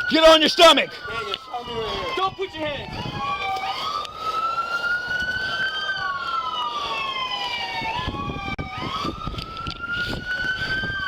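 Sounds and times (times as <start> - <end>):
police siren wailing: 0.0 - 11.0.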